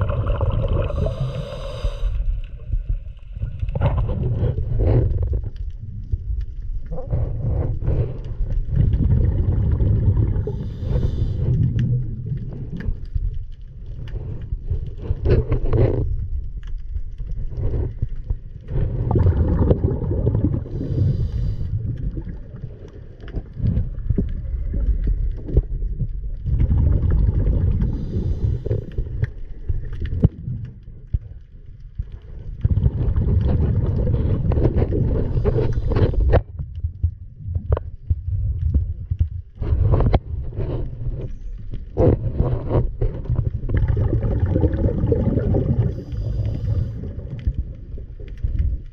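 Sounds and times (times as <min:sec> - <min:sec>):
water bubbling: 0:00.0 - 0:16.3, 0:16.9 - 0:48.9
muffled underwater rumble: 0:00.0 - 0:48.9.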